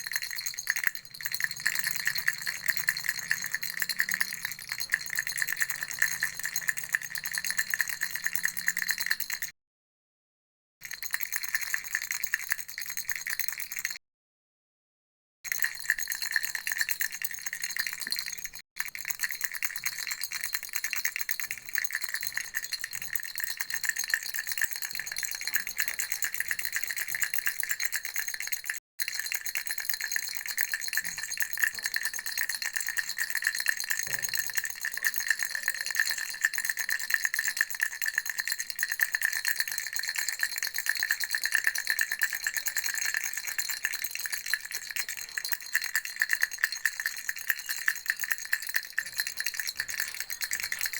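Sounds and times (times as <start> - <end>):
baby rattle shaken: 0.0 - 9.2, 15.7 - 50.9.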